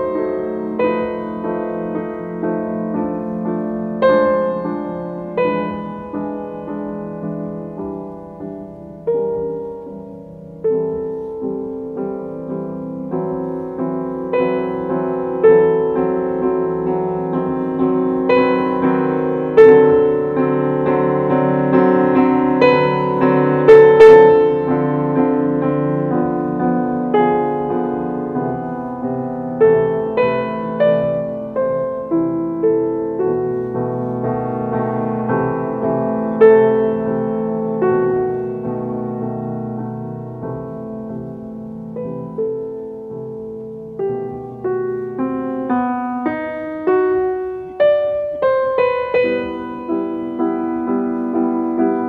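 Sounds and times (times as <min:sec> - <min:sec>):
slow solo piano melody: 0:00.0 - 0:52.0.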